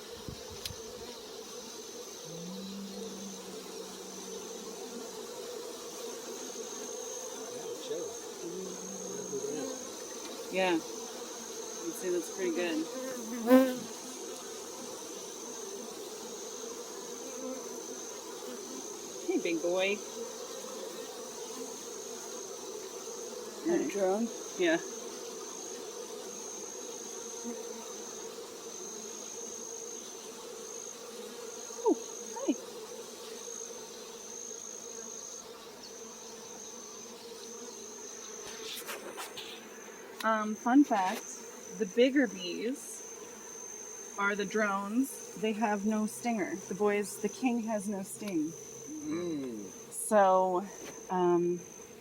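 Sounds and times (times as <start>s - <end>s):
honeybee swarm buzzing: 0.0s - 52.0s
louder bee buzz rising and falling: 0.0s - 52.0s.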